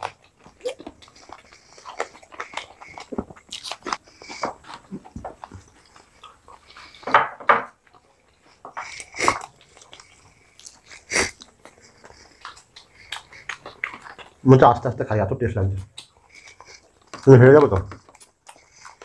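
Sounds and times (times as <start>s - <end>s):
people chewing with mouth smacks: 0.0s - 19.0s.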